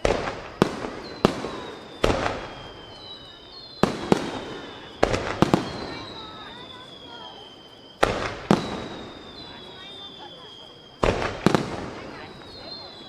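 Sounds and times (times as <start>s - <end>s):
firework shells bursting: 0.0s - 13.0s
high falling whistles: 0.0s - 13.0s.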